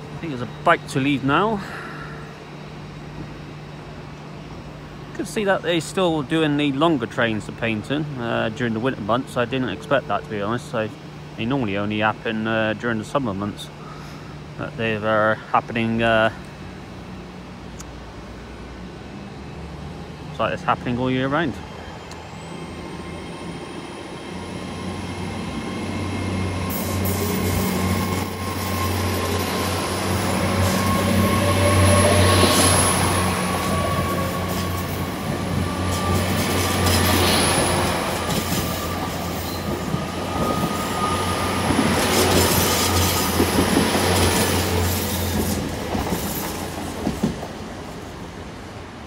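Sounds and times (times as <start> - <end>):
train low hum: 0.0 - 49.0.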